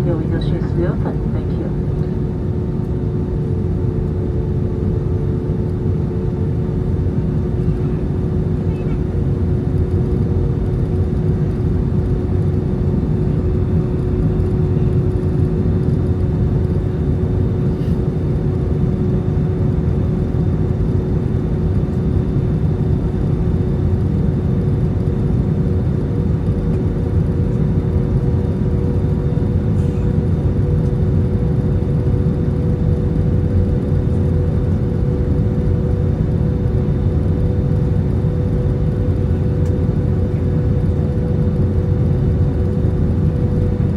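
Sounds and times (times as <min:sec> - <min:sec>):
airplane cabin engine rumble: 0:00.0 - 0:43.9.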